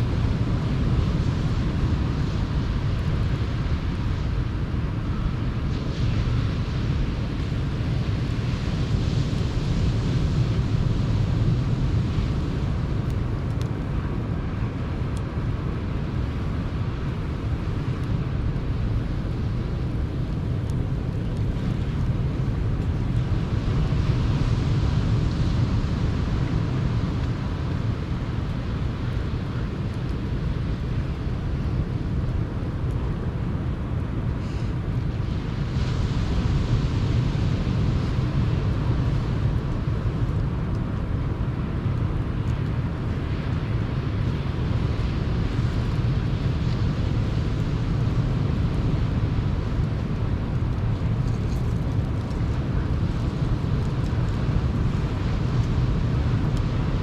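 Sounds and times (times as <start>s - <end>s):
faint campfire crackles: 0.0s - 57.0s.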